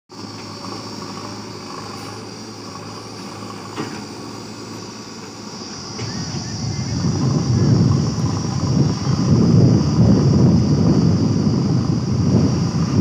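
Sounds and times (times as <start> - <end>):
backhoe loaders working: 0.1 - 13.0
dump truck diesel engine: 0.1 - 13.0.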